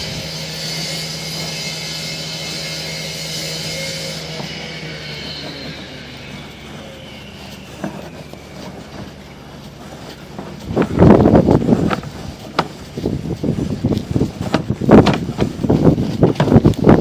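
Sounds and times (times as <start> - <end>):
cable rattling and scraping in pipe: 0.0 - 17.0.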